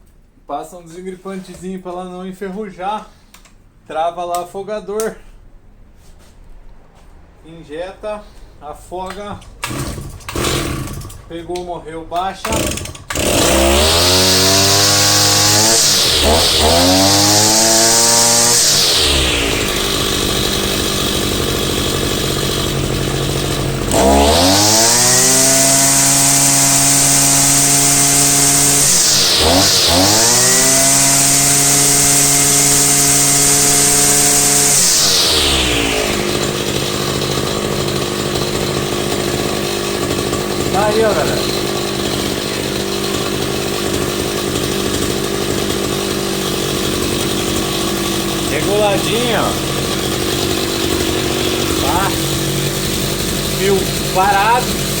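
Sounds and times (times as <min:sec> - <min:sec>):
brushcutter engine revving and idling: 0:09.4 - 0:55.0.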